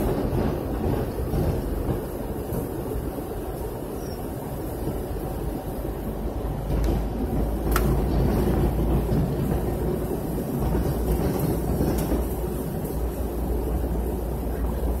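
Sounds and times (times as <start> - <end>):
airliner engine drone in cabin: 0.0 - 15.0.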